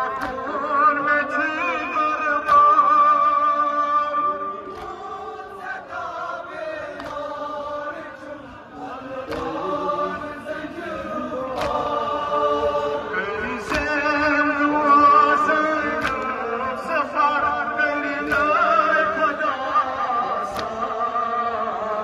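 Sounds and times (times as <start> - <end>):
man chanting over loudspeaker: 0.0 - 5.6, 7.5 - 22.0.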